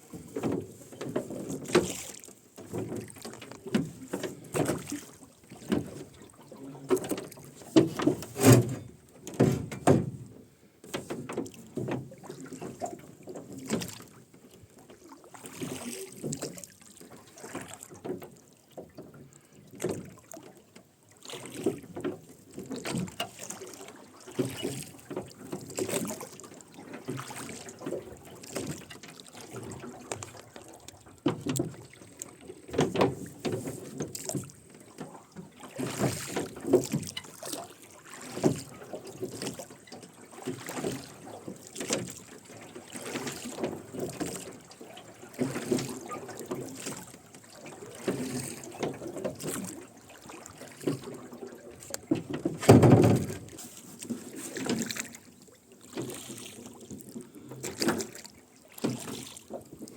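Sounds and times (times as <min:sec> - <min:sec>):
oar blades splashing: 0:00.0 - 0:20.6, 0:21.2 - 0:59.9
oars creaking and knocking: 0:00.0 - 0:59.9.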